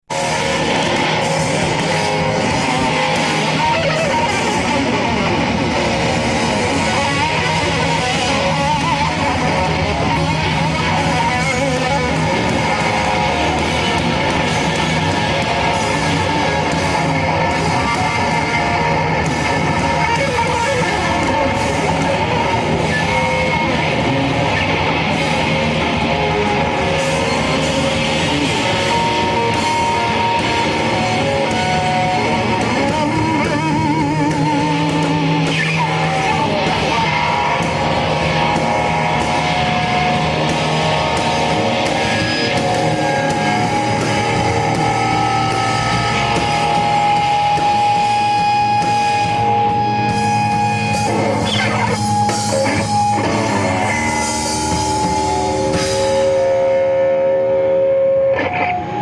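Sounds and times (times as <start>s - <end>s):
rock band playing live: 0.0s - 59.0s
strummed electric guitar: 0.0s - 59.0s.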